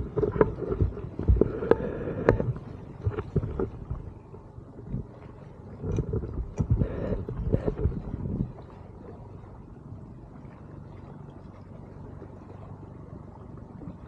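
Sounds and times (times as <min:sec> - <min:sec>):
boat hull slapping waves: 0:00.0 - 0:14.0
wind rumble on microphone: 0:00.0 - 0:14.0.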